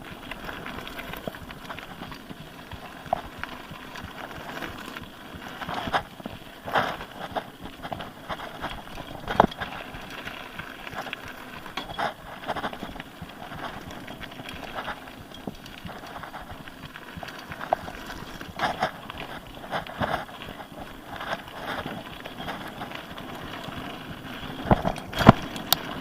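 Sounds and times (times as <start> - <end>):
bike rattling: 0.0 - 26.0
bike tyre rumble on rough trail: 0.0 - 26.0.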